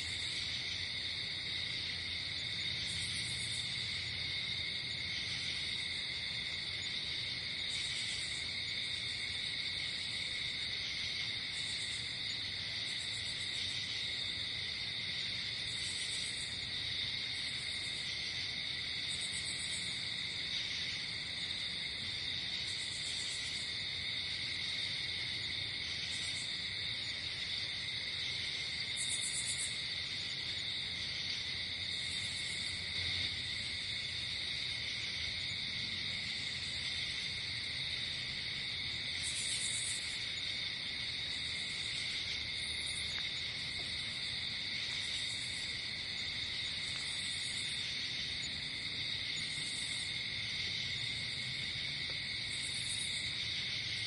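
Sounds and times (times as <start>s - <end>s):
crickets trilling: 0.0s - 54.0s
high buzzy insect calls: 0.0s - 54.0s.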